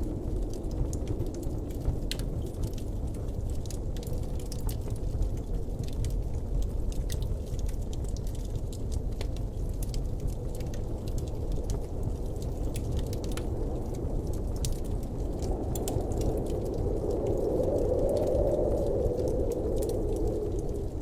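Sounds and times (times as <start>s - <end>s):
low rumble of wind: 0.0s - 21.0s
small crackles and ticks: 0.0s - 21.0s.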